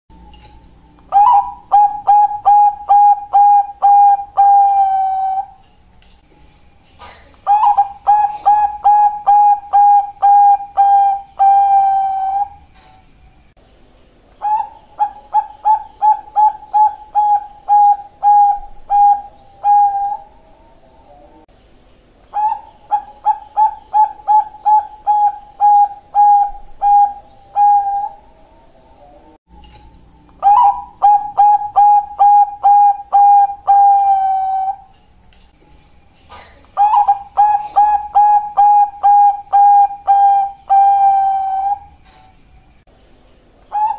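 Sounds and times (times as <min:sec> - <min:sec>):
dove cooing: 0:01.0 - 0:05.6, 0:07.0 - 0:13.0, 0:14.4 - 0:21.5, 0:22.3 - 0:29.4, 0:30.4 - 0:34.9, 0:35.8 - 0:42.4, 0:43.7 - 0:43.9.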